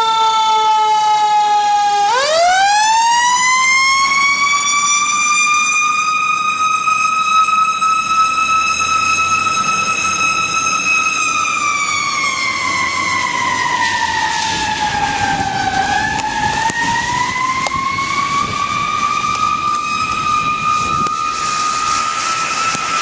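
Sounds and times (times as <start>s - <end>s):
fire engine siren wailing: 0.0s - 23.0s.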